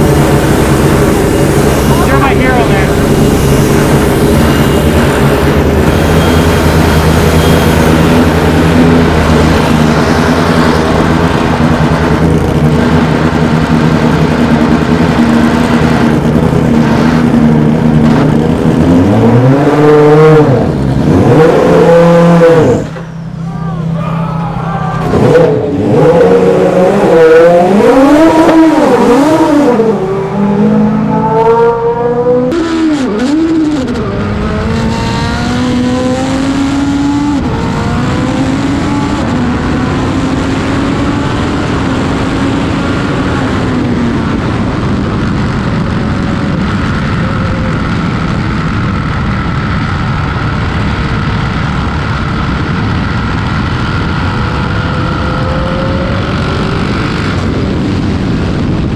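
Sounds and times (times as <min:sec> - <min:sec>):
race car engine revving: 0:00.0 - 0:58.9.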